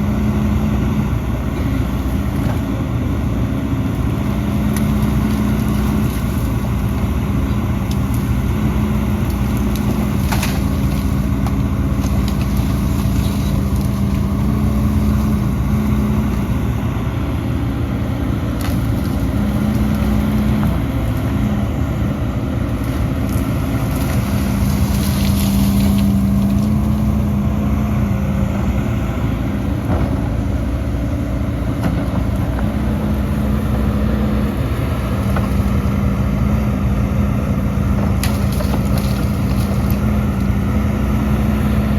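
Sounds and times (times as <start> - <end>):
diesel machinery drone: 0.0 - 41.9.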